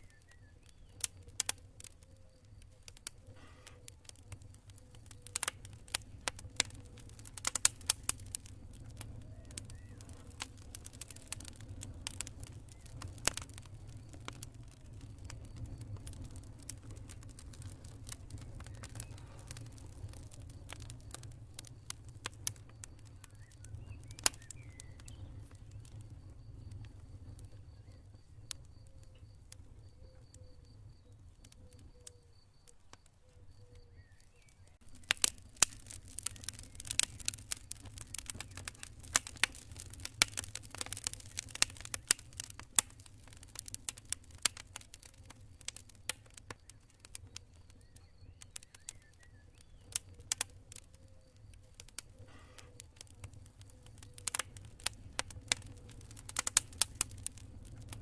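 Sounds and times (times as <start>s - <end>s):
campfire crackling and popping: 0.0s - 58.0s
cricket chirping trill: 8.2s - 58.0s.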